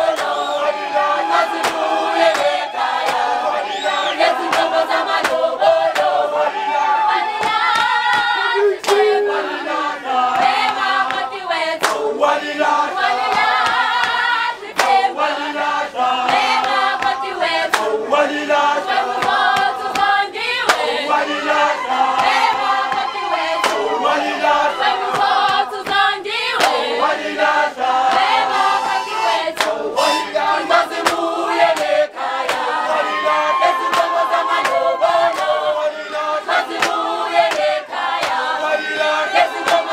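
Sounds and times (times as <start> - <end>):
women singing together: 0.0 - 39.9.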